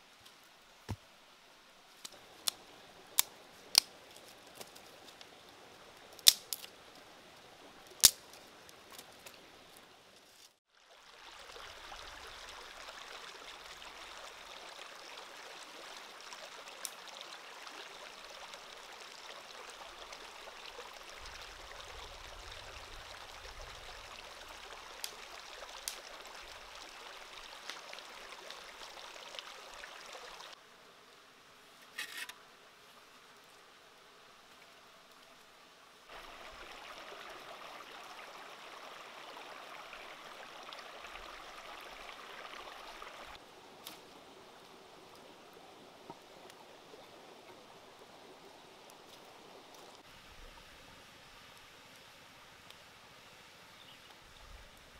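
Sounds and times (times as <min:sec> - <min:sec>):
outdoor background hiss: 0:00.0 - 0:54.9.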